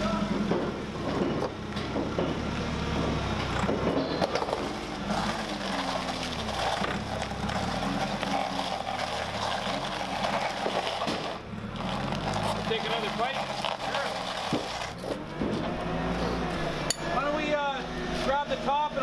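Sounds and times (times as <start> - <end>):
forklift engine running: 0.0 - 19.0.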